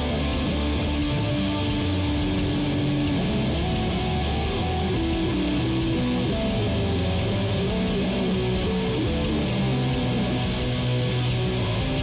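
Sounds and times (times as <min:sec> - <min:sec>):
guitar-led background music: 0:00.0 - 0:12.0
steady bass: 0:00.0 - 0:12.0.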